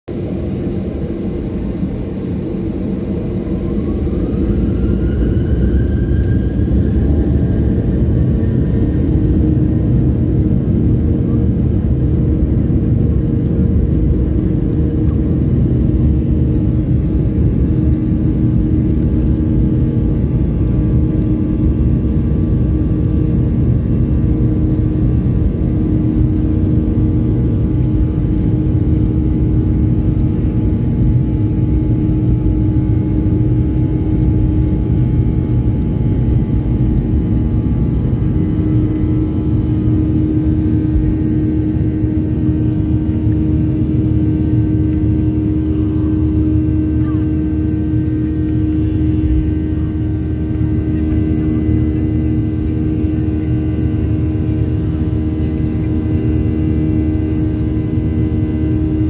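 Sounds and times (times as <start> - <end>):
jet engines roaring: 0.1 - 59.0.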